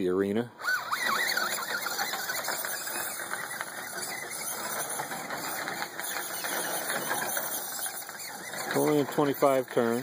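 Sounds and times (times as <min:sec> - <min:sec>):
rc truck motor whining: 0:00.6 - 0:10.0.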